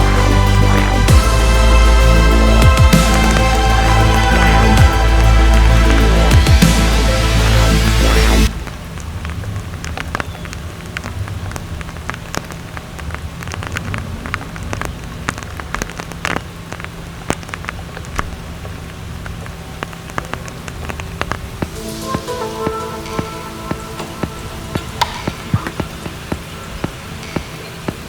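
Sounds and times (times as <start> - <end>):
rain pouring: 0.0 - 28.0
raindrops tapping close by: 0.0 - 28.0.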